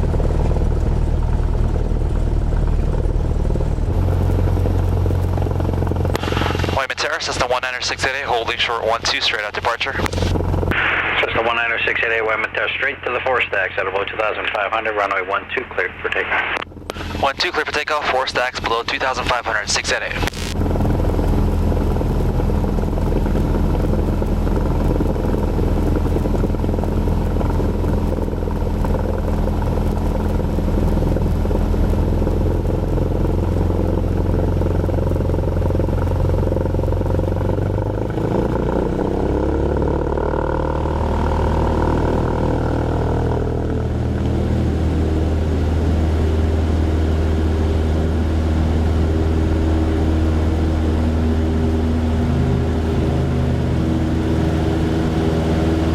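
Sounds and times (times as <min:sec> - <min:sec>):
propeller engine droning: 0:00.0 - 0:55.9.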